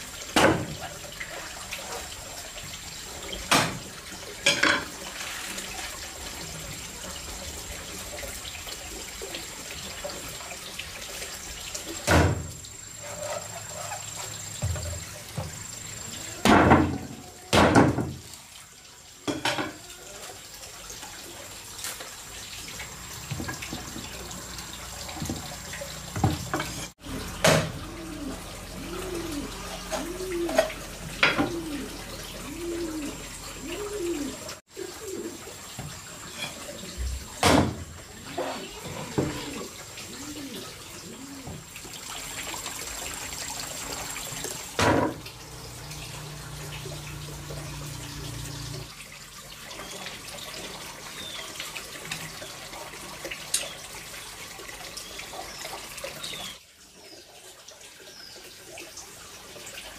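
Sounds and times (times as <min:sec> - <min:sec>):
water running: 0:00.0 - 0:59.9.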